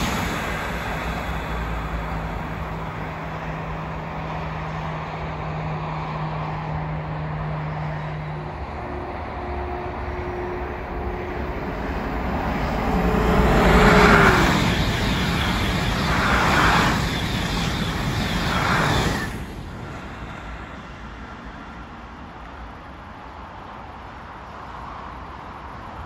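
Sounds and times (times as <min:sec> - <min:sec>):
high-speed train passing: 0:00.0 - 0:26.0
motorway traffic hum: 0:00.0 - 0:26.0.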